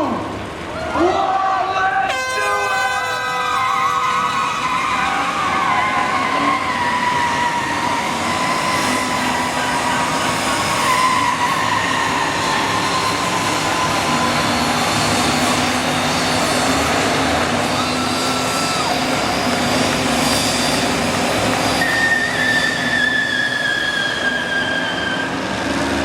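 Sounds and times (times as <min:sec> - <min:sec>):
tyres squealing: 0:03.4 - 0:25.4.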